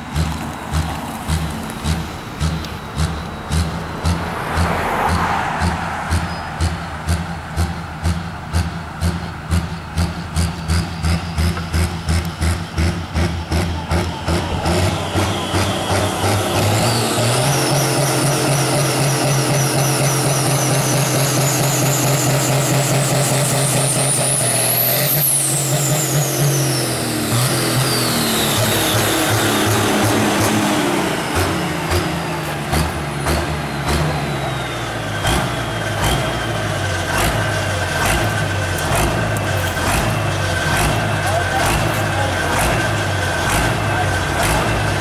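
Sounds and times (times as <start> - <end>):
tractor engine passing: 0.0 - 45.0.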